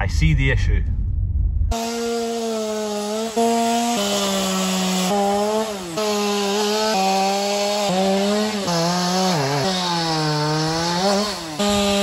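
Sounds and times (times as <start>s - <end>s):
chainsaw cutting wood: 1.7s - 12.0s.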